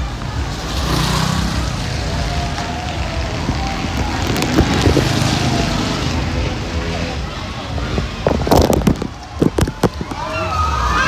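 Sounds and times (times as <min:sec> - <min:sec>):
street noise: 0:00.0 - 0:11.0
truck engines running: 0:00.0 - 0:11.0.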